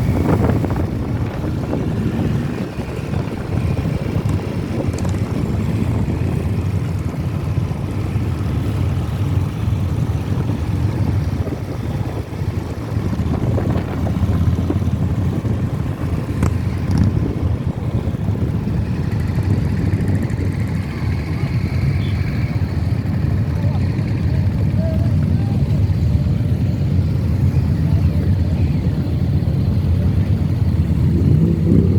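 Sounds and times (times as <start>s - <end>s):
many motorcycle engines running: 0.0s - 31.9s.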